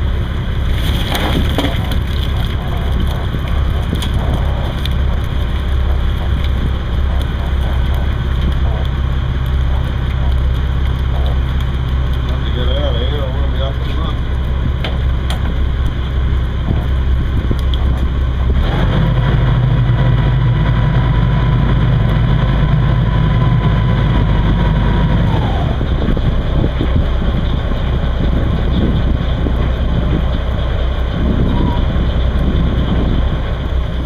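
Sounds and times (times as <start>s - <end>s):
boat engine running steadily: 0.0s - 34.0s
high whine with heavy hum: 0.0s - 34.0s.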